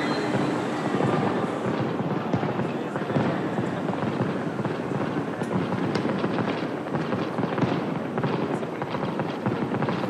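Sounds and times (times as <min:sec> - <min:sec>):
fireworks crackling and banging: 0:00.0 - 0:10.0.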